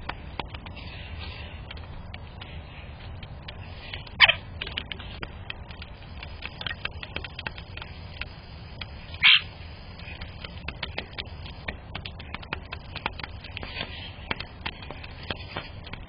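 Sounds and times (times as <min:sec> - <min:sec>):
faint bird chips and ticks: 0:00.0 - 0:16.0.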